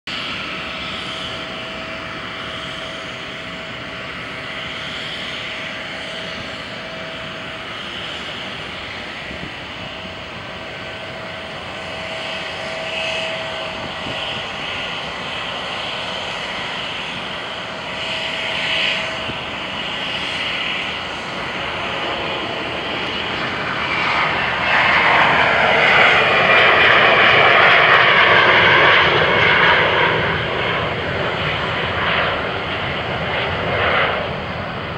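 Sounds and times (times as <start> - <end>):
jet engine whine and rush: 0.1 - 34.9.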